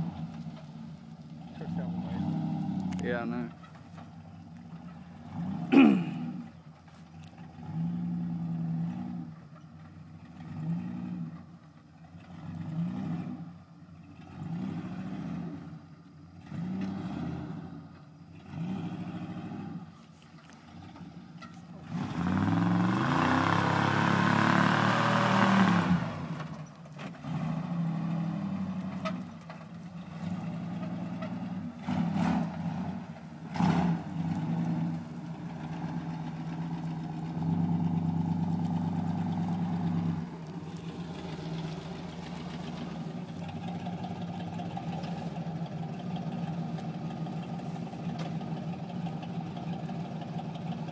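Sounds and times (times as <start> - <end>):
truck engine revving: 0.0 - 4.0, 4.6 - 15.8, 16.4 - 20.0, 20.7 - 50.9.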